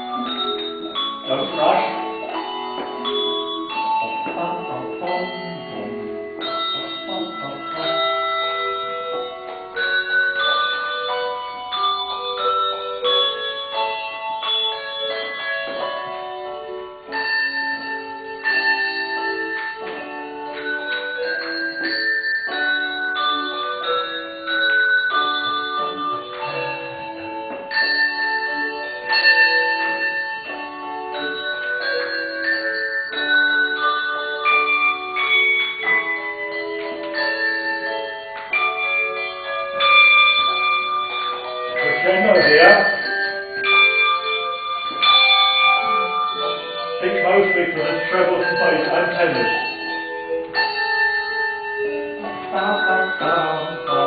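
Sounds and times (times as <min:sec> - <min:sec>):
handbells ringing chords: 0:00.0 - 0:54.0.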